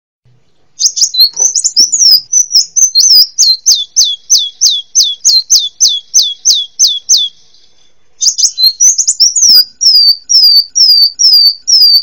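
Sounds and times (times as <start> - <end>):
sunbird singing: 0.3 - 12.0.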